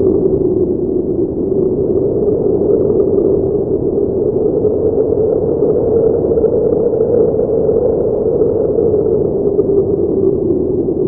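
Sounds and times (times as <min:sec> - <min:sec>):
muffled blizzard wind: 0:00.0 - 0:11.0.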